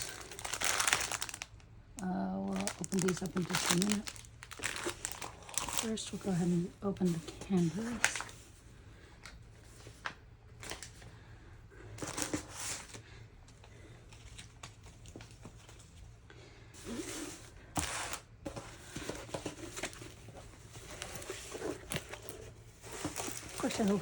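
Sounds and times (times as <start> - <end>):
paper and plastic rustling: 0.0 - 24.0.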